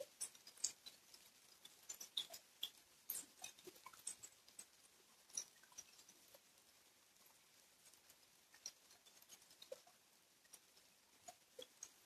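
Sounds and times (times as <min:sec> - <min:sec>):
rain hissing on lawn: 0:00.0 - 0:12.0.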